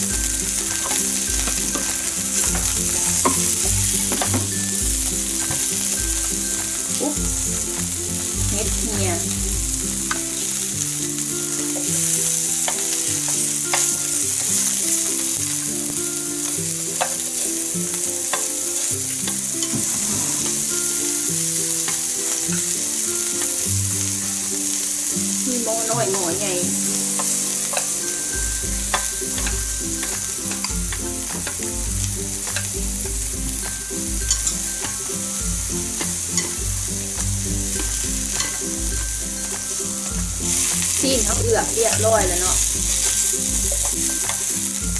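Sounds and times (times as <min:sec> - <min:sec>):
meat sizzling on grill pan: 0:00.0 - 0:44.9
chopsticks clicking on pan: 0:00.1 - 0:22.7, 0:25.7 - 0:31.7, 0:32.4 - 0:35.3, 0:35.9 - 0:44.8.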